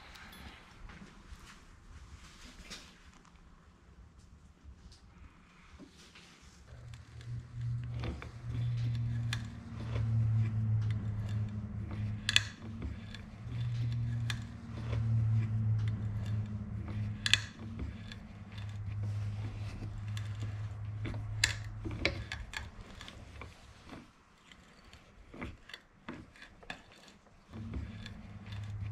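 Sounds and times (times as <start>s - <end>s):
steady low hum: 3.7s - 28.9s.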